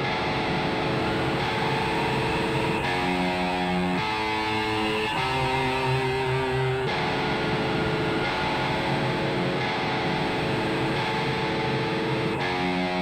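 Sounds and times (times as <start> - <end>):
electric guitar slow chords: 0.0 - 13.0
synthesized wind noise: 0.0 - 13.0.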